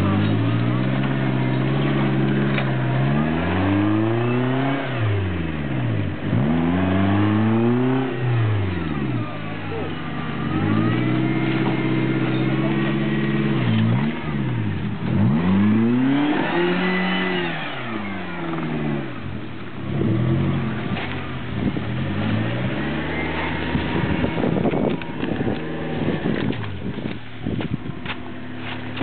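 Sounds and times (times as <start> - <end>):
off-road car engine revving: 0.0 - 29.0.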